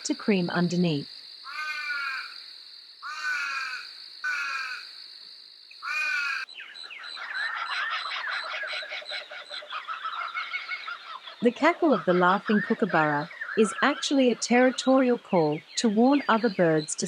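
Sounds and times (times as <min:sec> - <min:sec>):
kookaburras cackling: 0:01.4 - 0:02.4, 0:03.0 - 0:04.9, 0:05.8 - 0:17.0
owl rasping calls: 0:01.4 - 0:02.4, 0:03.0 - 0:04.9, 0:05.7 - 0:16.9.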